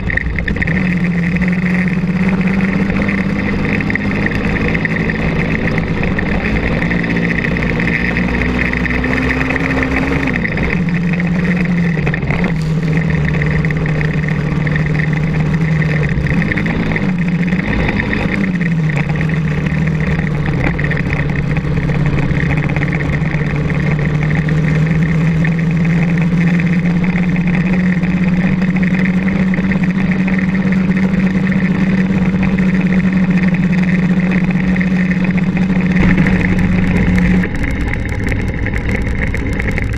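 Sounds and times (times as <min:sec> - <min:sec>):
buggy engine under throttle: 0:00.0 - 0:39.9.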